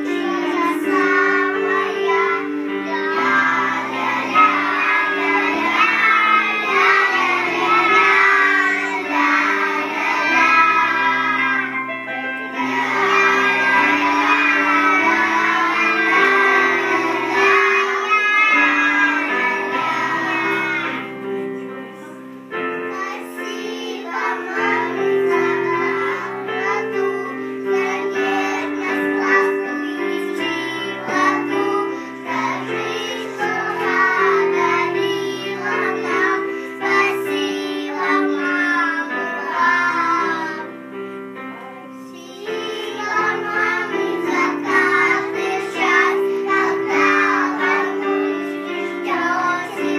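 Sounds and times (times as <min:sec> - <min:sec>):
child singing: 0:00.0 - 0:11.8, 0:12.5 - 0:21.2, 0:22.9 - 0:40.8, 0:41.7 - 0:49.9
instrumental backing track: 0:00.0 - 0:49.9.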